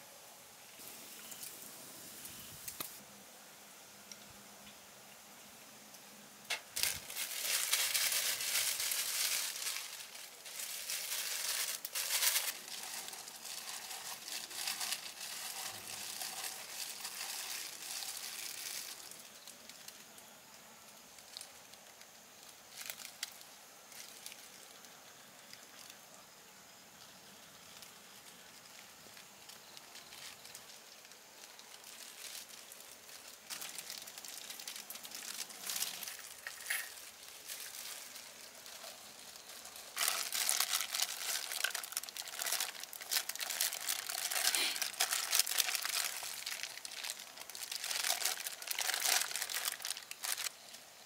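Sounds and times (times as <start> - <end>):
plastic gloves crinkling: 0.8 - 3.0, 6.4 - 26.3, 27.1 - 51.0.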